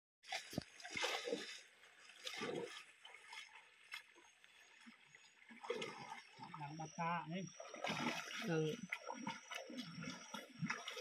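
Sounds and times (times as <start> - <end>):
stream water splashing: 0.2 - 11.0.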